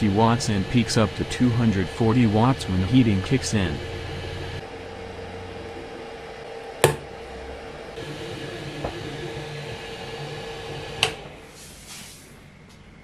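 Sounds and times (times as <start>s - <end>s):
printer fan hum: 0.0s - 13.0s.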